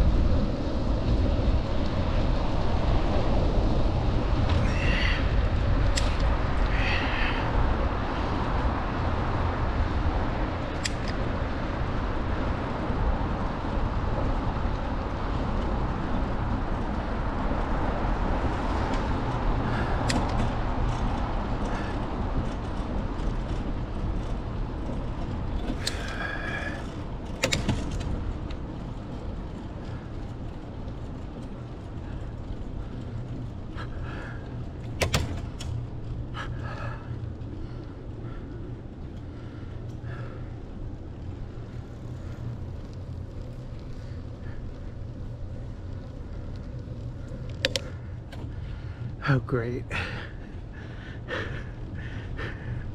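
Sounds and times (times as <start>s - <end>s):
bicycle tyre noise: 0.0s - 52.9s
wind rushing over microphone: 0.0s - 52.9s.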